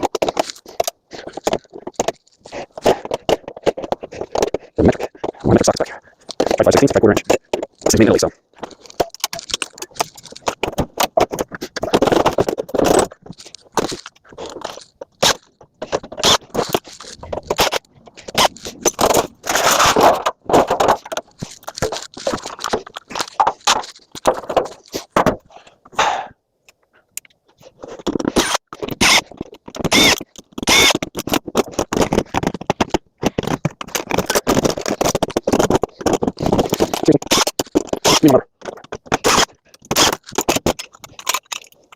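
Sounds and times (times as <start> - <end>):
metal parts clanking and scraping: 0.0 - 25.5, 27.6 - 41.9.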